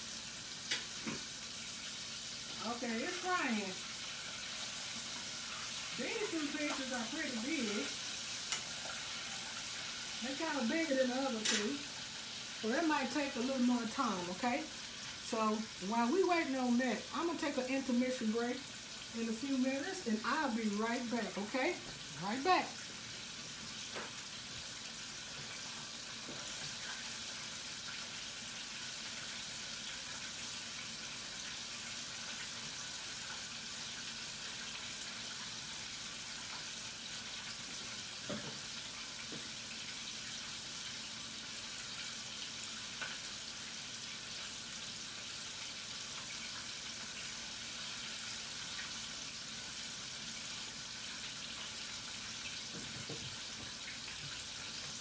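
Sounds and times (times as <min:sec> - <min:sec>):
chicken frying in deep fryer: 0:00.0 - 0:55.0.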